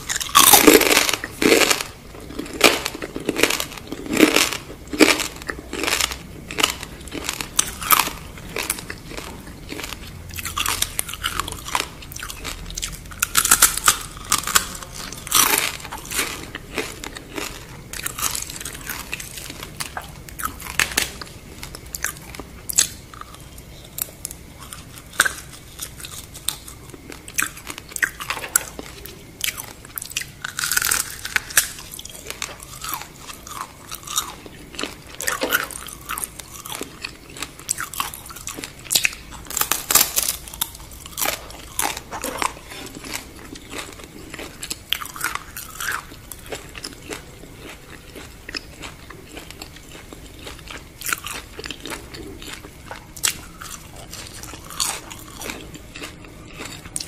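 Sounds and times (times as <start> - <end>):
crunching fried food: 0.0 - 57.0.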